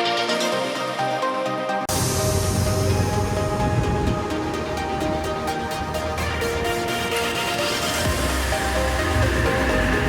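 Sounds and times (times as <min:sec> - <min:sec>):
electronic music with synth melody: 0:00.0 - 0:10.0.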